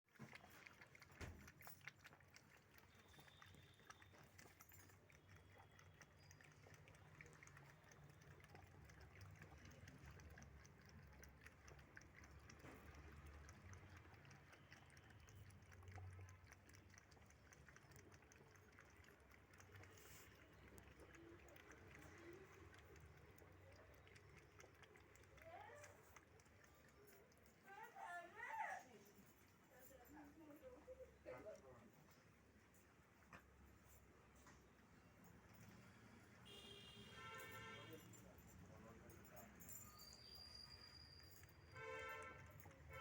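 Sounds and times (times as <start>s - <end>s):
cats lapping milk: 0.0s - 43.0s.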